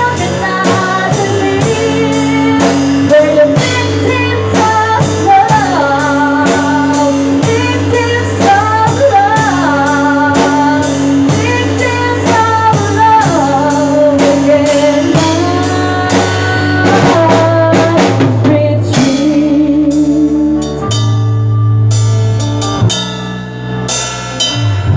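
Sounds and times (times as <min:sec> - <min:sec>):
drum kit with cymbals: 0:00.0 - 0:24.9
rock ballad band playing: 0:00.0 - 0:24.9
wavering melodic lead line: 0:00.0 - 0:24.9.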